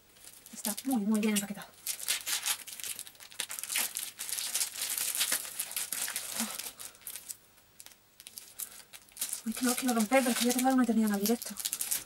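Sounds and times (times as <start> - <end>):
packaging wrap crinkling and tearing: 0.2 - 12.0.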